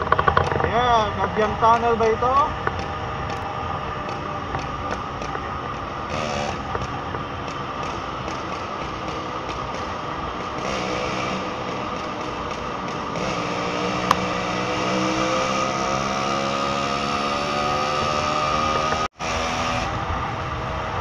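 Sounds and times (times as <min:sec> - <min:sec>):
two-stroke motorcycle engine: 0:00.0 - 0:21.0
wind and road noise: 0:00.0 - 0:21.0.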